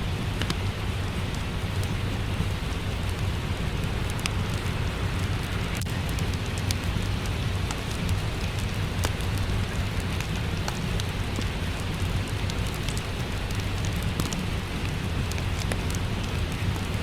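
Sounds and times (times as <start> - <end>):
steady rain: 0.0 - 17.0
wood fire crackling and popping: 0.0 - 17.0.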